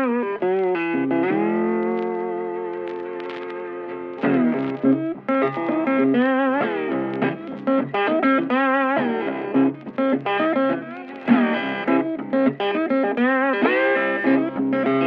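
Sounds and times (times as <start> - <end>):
guitar melody with vibrato: 0.0 - 15.0.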